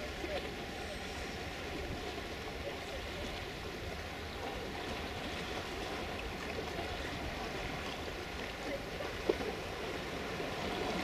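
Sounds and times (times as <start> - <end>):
hiss of wind and water: 0.0 - 11.0.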